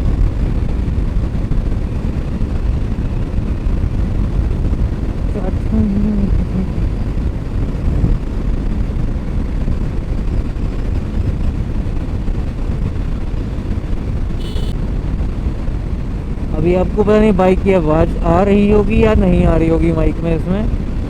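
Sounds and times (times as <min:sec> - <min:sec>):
motorcycle engine running: 0:00.0 - 0:19.5
wind rumble on microphone: 0:00.0 - 0:21.0.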